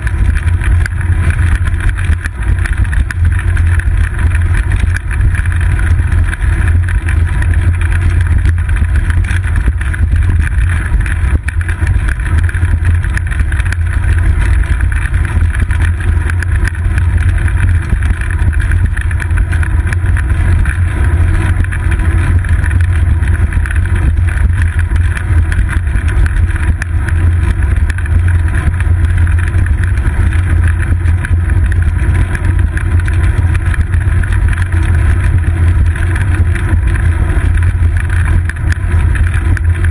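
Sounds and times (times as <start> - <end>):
road vibration rumble: 0.0 - 39.9.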